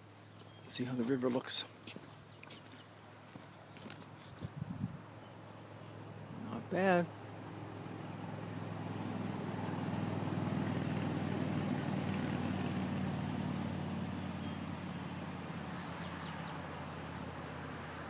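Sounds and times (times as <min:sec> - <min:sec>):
motor vehicle passing: 0:01.8 - 0:18.0.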